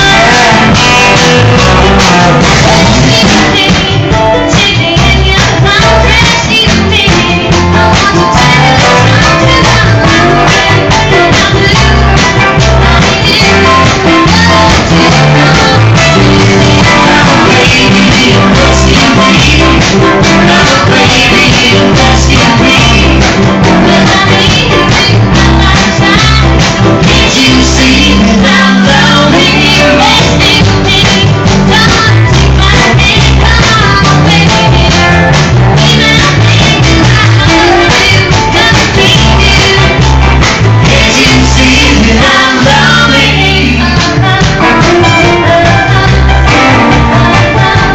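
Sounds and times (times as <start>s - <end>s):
drums: 0.0s - 47.9s
guitar: 0.0s - 47.9s
live rock band playing: 0.0s - 47.9s
person singing: 0.0s - 47.9s.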